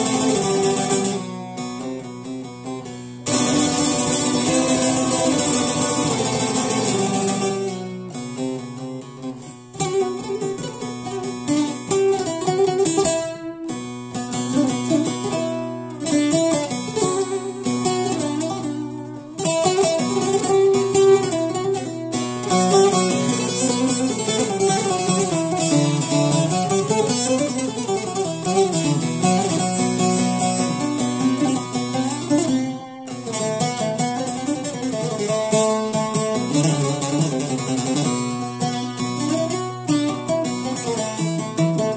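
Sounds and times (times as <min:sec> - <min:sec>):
plucked saz melody with drone: 0:00.0 - 0:41.9.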